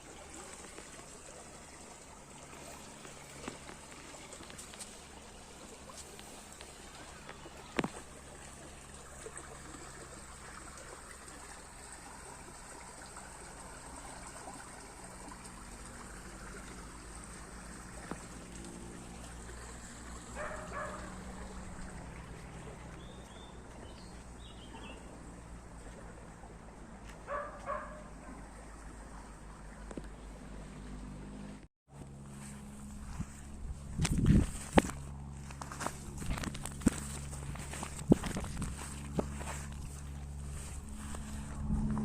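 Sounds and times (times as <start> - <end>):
low steady hum: 0.0 - 42.0
stream trickling: 0.0 - 42.0.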